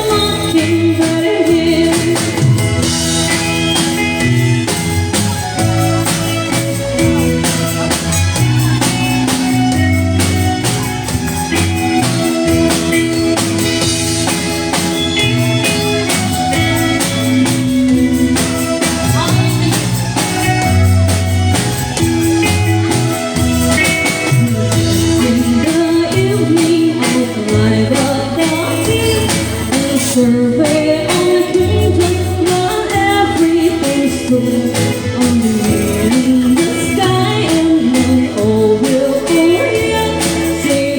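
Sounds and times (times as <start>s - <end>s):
band playing with singer: 0.0s - 40.9s.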